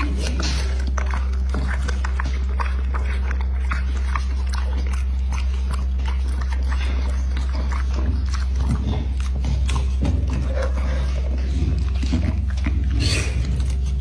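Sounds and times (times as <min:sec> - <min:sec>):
dog chewing and smacking: 0:00.0 - 0:14.0
steady low hum: 0:00.0 - 0:14.0.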